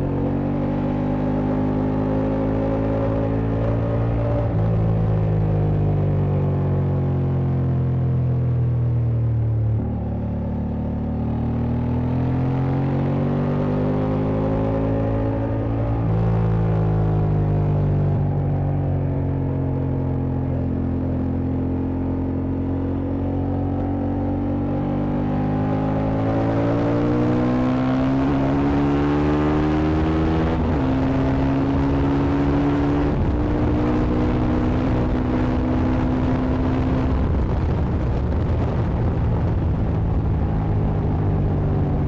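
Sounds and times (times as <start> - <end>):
motorcycle engine accelerating: 0.0 - 42.0
wind and road noise: 0.0 - 42.0.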